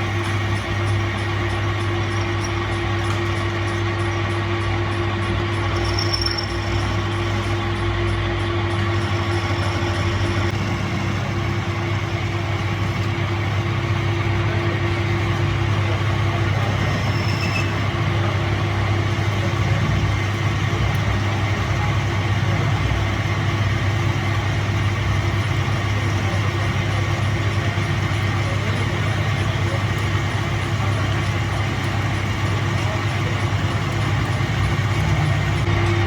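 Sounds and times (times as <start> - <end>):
machine humming: 0.0 - 36.0.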